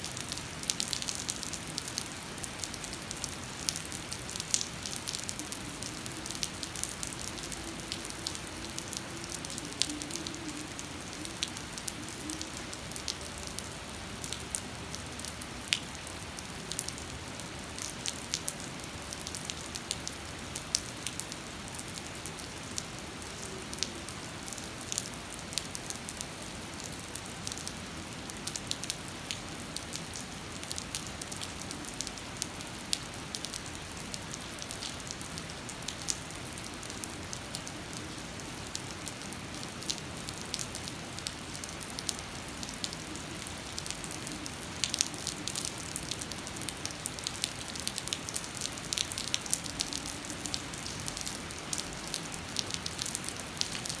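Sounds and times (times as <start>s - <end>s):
heavy rain on pavement: 0.0s - 54.0s
raindrops ticking nearby: 0.0s - 54.0s.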